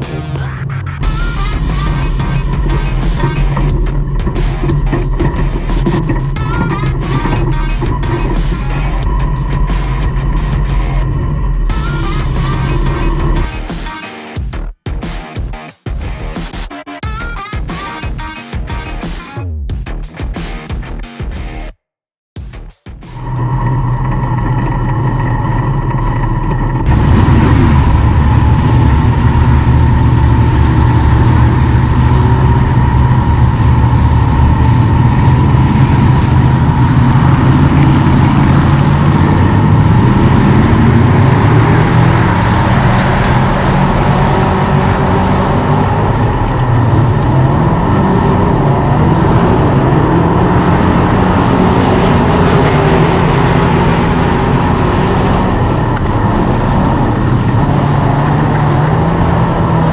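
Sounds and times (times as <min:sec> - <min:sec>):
race car engine at high revs: 0:00.0 - 0:14.2, 0:23.1 - 0:59.9.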